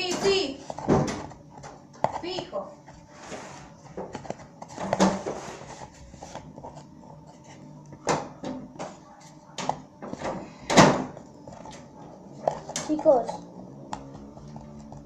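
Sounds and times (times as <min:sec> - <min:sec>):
spoon stirring and scraping glue: 0:00.0 - 0:08.1, 0:08.9 - 0:15.0.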